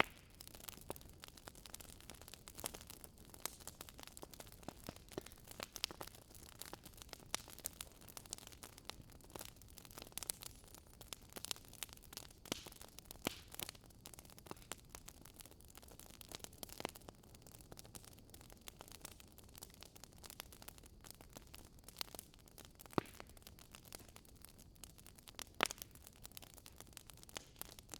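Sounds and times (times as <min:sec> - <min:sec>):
burning wood crackling: 0:00.0 - 0:27.9.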